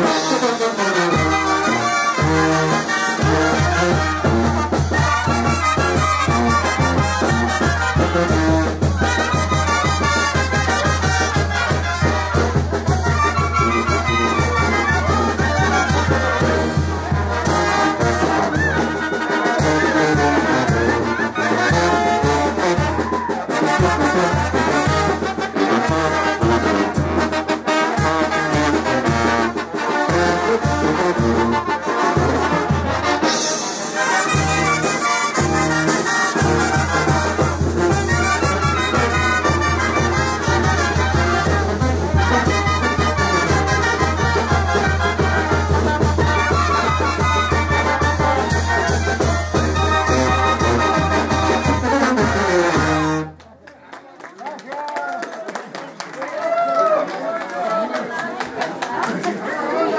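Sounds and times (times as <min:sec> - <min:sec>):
percussion beat: 0:00.0 - 0:53.4
tuba bass line: 0:00.0 - 0:53.4
brass band playing dance music: 0:00.0 - 0:53.6.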